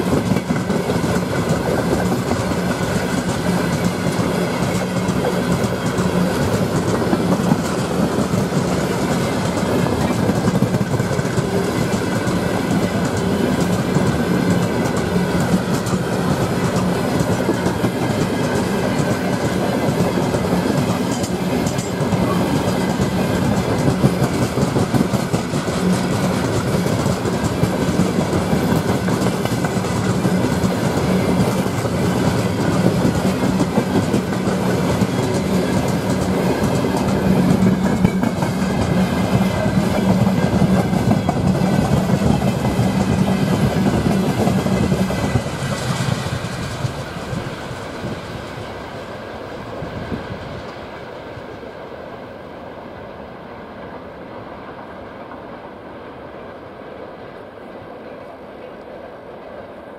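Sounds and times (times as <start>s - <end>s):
clickety-clack over rail joints: 0.0s - 51.7s
train wheels rumbling on rails: 0.0s - 59.9s.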